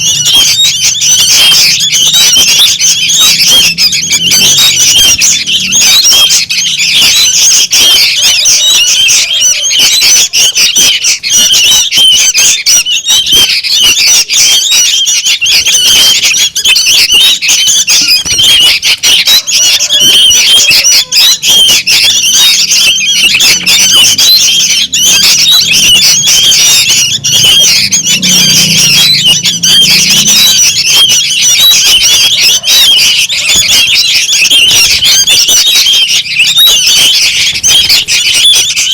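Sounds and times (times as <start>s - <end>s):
birds chattering: 0.0s - 38.9s.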